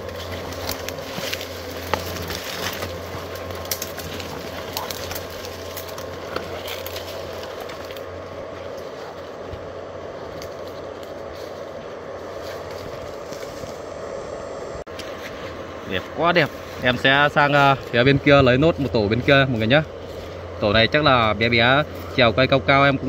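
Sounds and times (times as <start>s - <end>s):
footsteps crunching through leaves: 0.0s - 14.0s, 14.9s - 20.8s
branches brushing and snapping: 0.0s - 14.1s, 14.9s - 22.3s
steady low hum: 0.0s - 23.0s.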